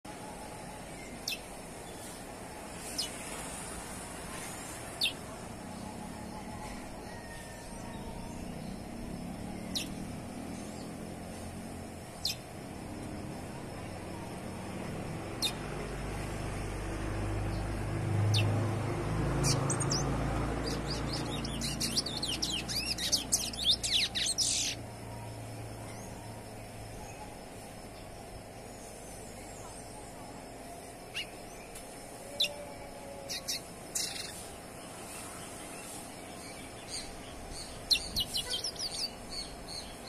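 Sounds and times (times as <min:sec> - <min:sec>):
bird twittering song: 0:00.1 - 0:03.3, 0:04.9 - 0:16.4, 0:17.4 - 0:40.0.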